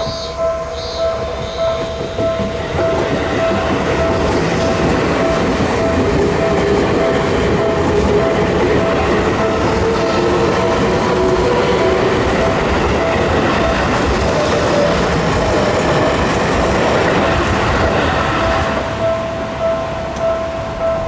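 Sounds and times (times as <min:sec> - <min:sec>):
crossing warning bell ringing: 0:00.0 - 0:21.0
train wheels rushing on rails: 0:00.0 - 0:21.0.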